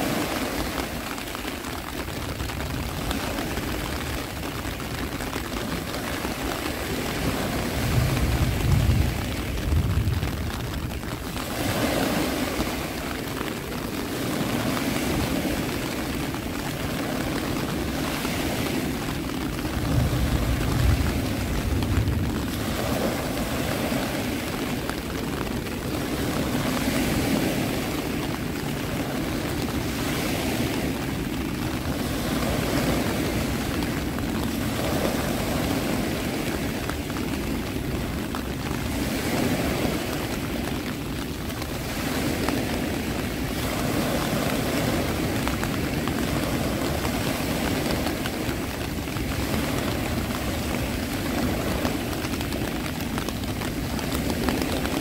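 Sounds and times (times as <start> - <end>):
waves rushing: 0.0 - 55.0.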